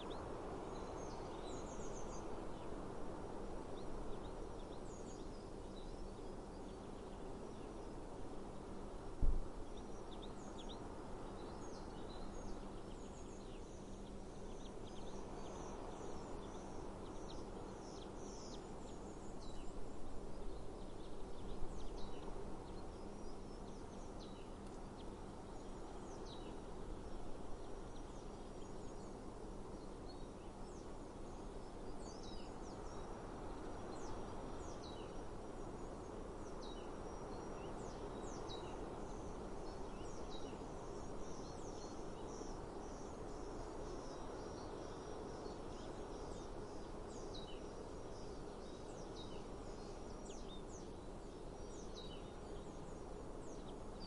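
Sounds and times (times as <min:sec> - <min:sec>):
outdoor background hiss: 0:00.0 - 0:54.0
small birds chirping: 0:09.6 - 0:54.0.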